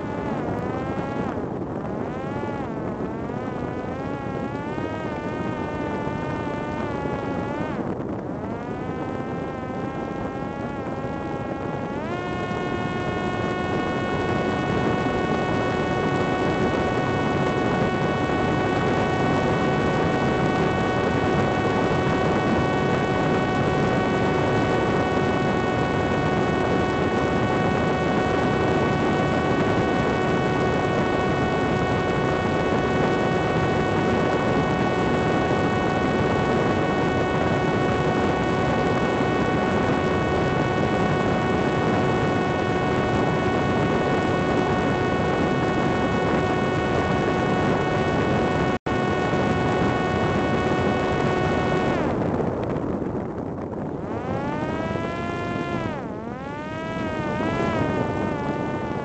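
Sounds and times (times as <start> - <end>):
drone motor whine: 0.0 - 59.0
rushing wind noise: 0.0 - 59.0.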